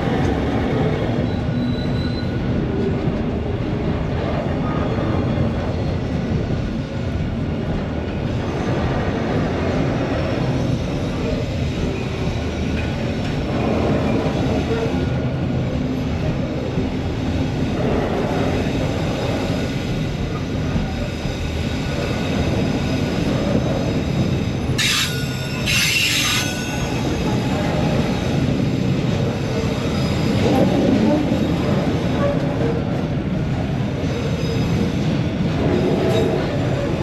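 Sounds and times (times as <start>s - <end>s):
steel wheels squealing on rail: 0.0s - 7.0s, 8.3s - 15.6s, 16.2s - 37.0s
freight train wagons rumbling: 0.0s - 37.0s.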